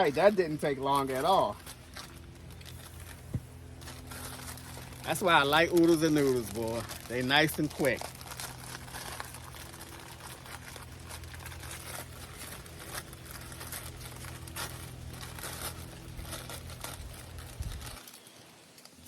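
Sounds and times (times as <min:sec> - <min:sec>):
crinkling and crackling: 0:00.0 - 0:19.0
low electric hum: 0:00.0 - 0:19.0.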